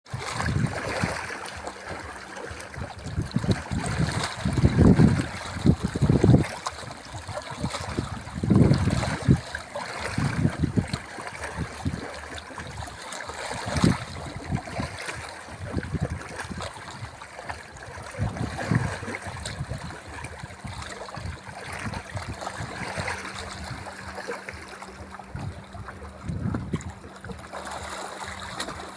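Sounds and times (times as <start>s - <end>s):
sea water lapping and splashing: 0.0s - 28.9s.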